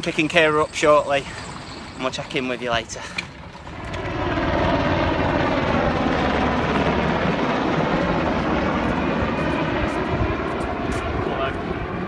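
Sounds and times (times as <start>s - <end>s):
aircraft engine noise: 0.0s - 12.0s.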